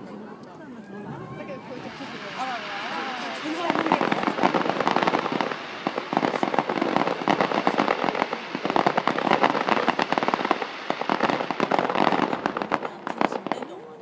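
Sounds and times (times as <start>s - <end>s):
fireworks crackling: 1.2s - 14.0s.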